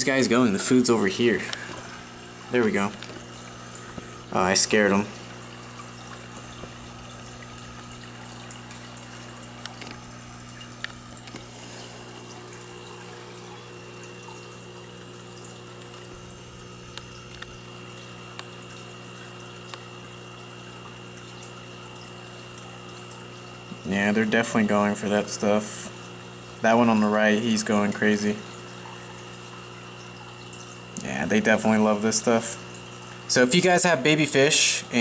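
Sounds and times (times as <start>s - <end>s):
low pump hum: 0.0s - 35.0s.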